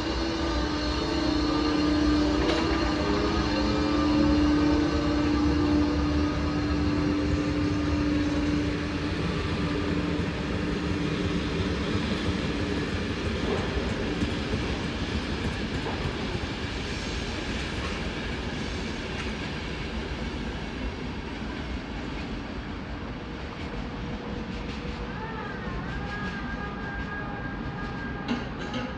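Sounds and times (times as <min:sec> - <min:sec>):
train wheels rumbling on track: 0:00.0 - 0:28.9.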